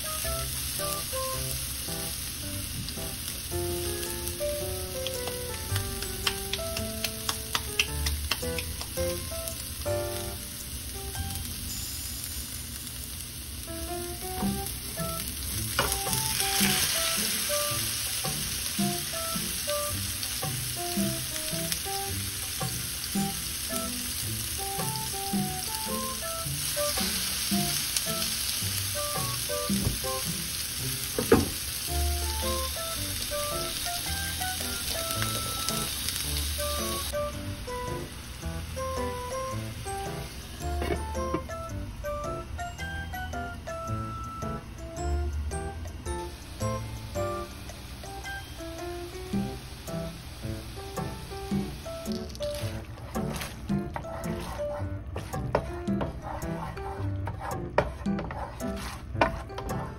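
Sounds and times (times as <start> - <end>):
meat patties sizzling in pan: 0.0 - 41.4, 46.2 - 52.9.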